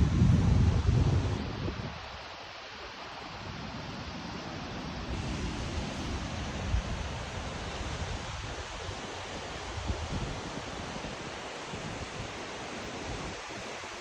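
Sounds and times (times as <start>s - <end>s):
wind buffeting microphone: 0.0s - 2.2s, 3.5s - 14.0s
waterfall rushing: 0.0s - 14.0s.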